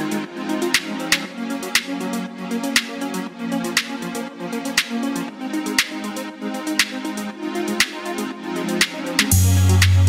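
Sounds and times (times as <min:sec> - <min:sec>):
background music with sharp beat: 0:00.0 - 0:10.0.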